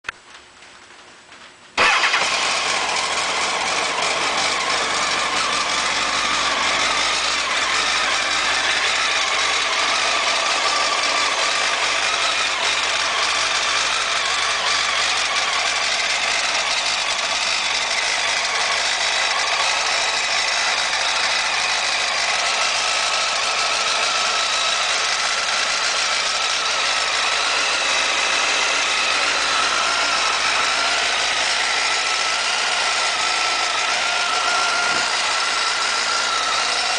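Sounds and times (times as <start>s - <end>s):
motorcycle engine idling: 1.8s - 36.9s.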